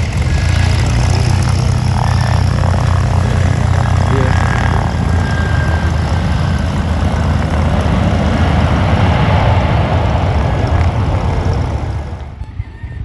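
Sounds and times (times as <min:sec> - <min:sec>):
airliner engines running: 0:00.0 - 0:13.0.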